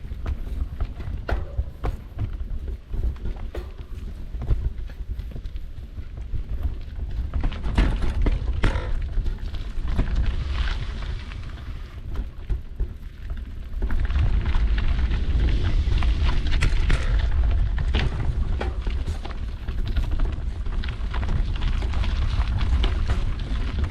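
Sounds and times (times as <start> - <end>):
bike knocking and rattling: 0.0 - 23.9
wind buffeting microphone: 0.0 - 23.9.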